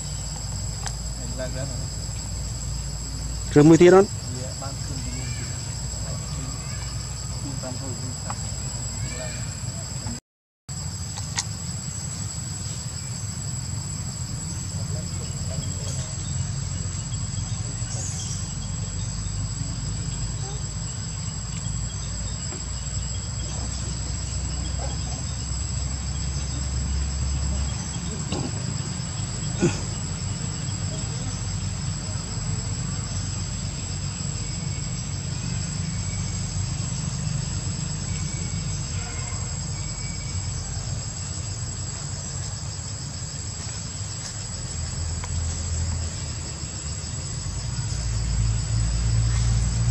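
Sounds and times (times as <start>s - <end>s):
forest insects droning: 0.0s - 49.9s.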